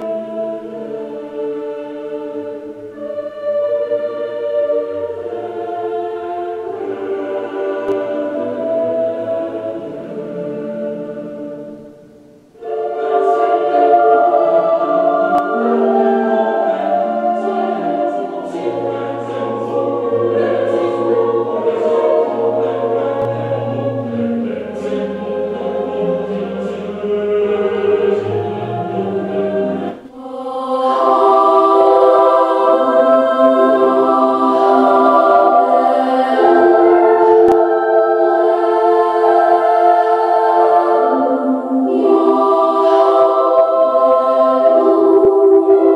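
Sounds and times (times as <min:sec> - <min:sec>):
choral singing over speakers: 0:00.0 - 0:45.9.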